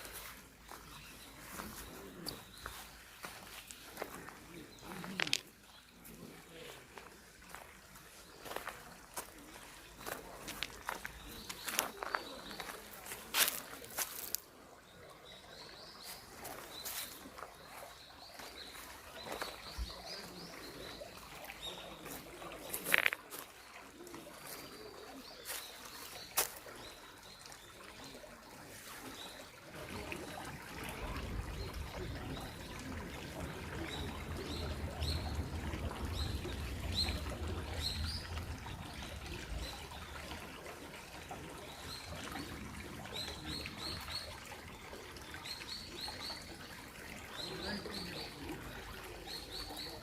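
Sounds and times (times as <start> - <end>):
small songbirds chirping: 0.0 - 44.4
trickling stream: 0.0 - 50.0.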